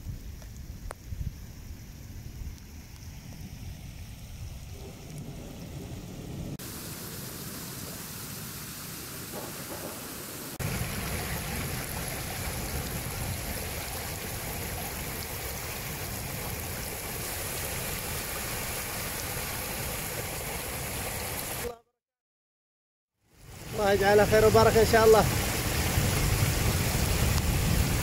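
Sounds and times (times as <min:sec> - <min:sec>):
hiss of water on road: 0:00.0 - 0:21.7, 0:23.3 - 0:28.0
floodwater cascading: 0:02.6 - 0:21.7, 0:23.3 - 0:28.0.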